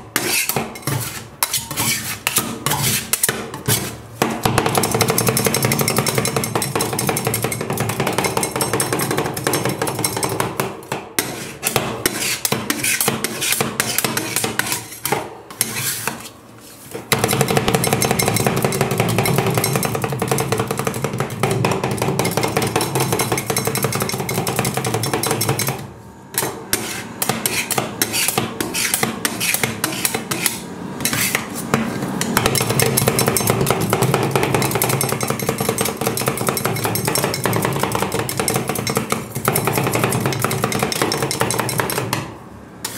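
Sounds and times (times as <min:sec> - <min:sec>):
metal spatulas scraping steel plate: 0:00.0 - 0:04.1, 0:11.2 - 0:42.1.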